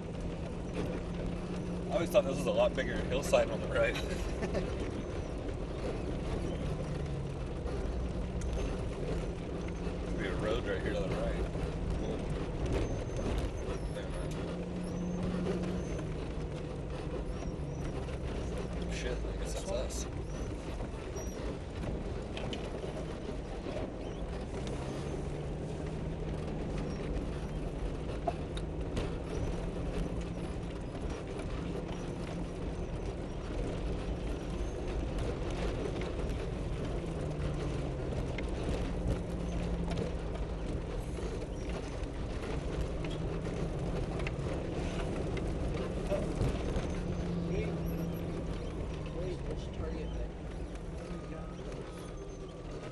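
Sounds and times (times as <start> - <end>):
vehicle engine at low revs: 0.0 - 52.9.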